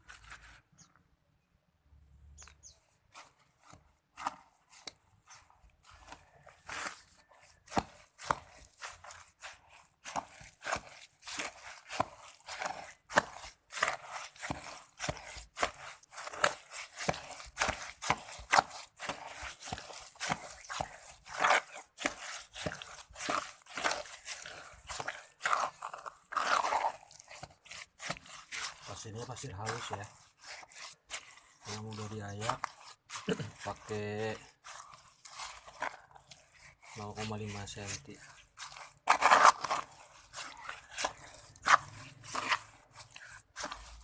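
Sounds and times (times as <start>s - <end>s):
trowel scraping mortar: 0.0s - 0.9s, 2.6s - 44.0s.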